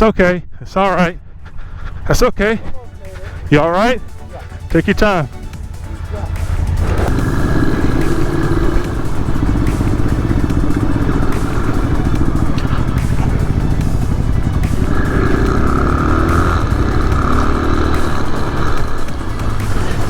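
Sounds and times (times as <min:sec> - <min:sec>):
motorcycle engine revving: 0:02.8 - 0:20.0.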